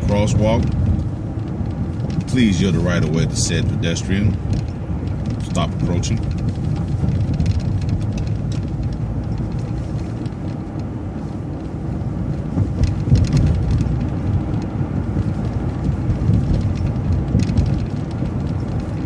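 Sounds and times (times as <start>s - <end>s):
bus engine and tyre rumble: 0.0s - 19.0s.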